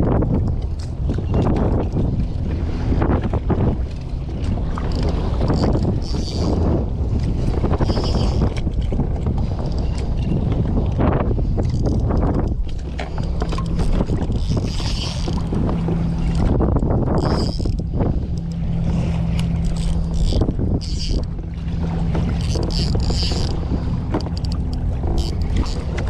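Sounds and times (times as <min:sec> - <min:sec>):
water splashing against kayak hull: 0:00.0 - 0:26.0
wind buffeting microphone: 0:00.0 - 0:26.0.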